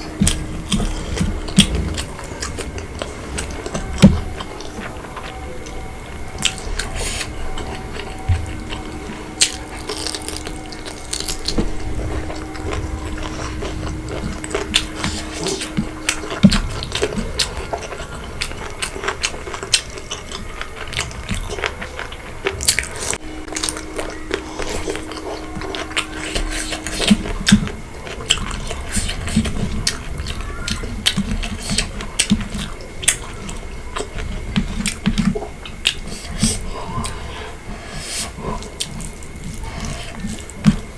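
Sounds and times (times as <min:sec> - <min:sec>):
chewing and lip-smacking: 0:00.0 - 0:40.9.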